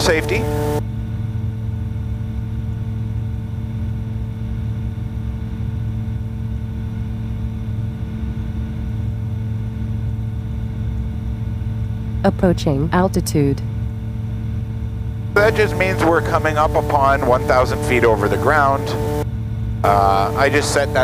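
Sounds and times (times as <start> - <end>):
aircraft engine and propeller droning: 0.0 - 21.0.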